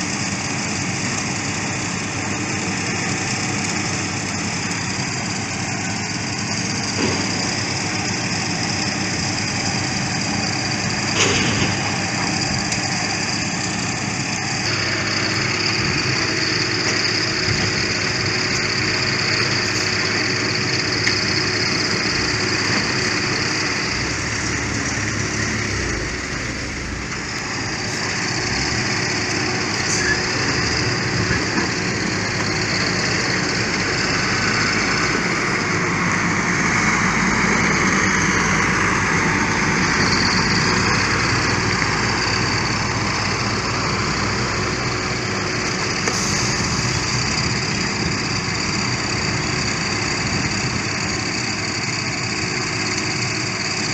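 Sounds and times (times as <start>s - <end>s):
construction machinery engines running: 0.0s - 53.9s.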